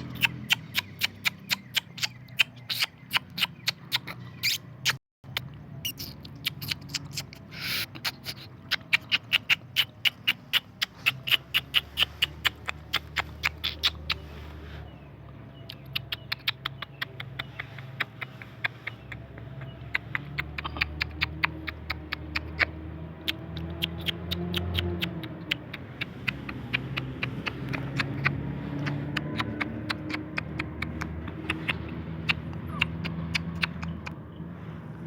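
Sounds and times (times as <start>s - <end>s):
puppies squeaking: 0.0s - 15.0s, 15.6s - 34.2s.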